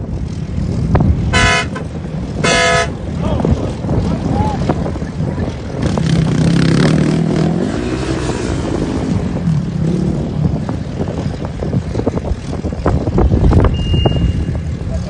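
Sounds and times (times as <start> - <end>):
large vehicle engine running: 0.0 - 15.0
wind buffeting microphone: 0.0 - 15.0.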